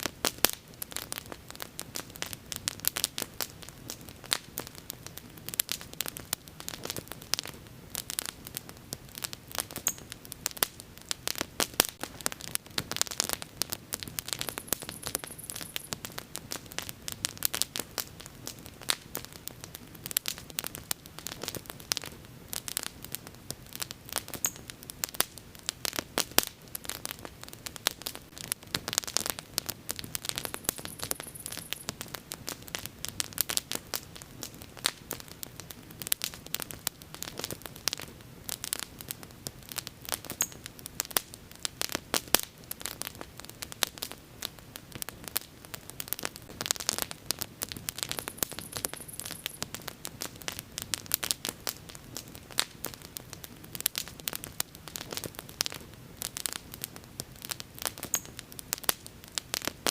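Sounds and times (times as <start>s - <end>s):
bonfire crackling: 0.0s - 59.9s.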